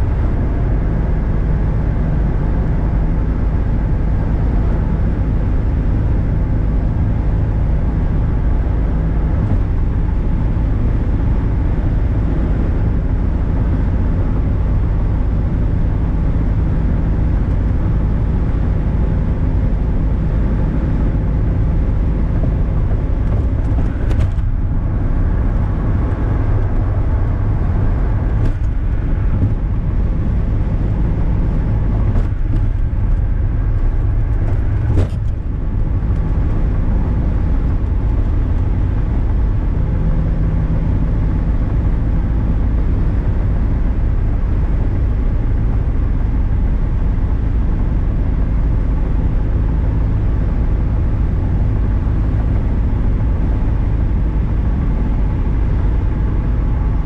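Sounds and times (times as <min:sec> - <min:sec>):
car engine running: 0:00.0 - 0:57.0
road and tyre noise: 0:00.0 - 0:57.0.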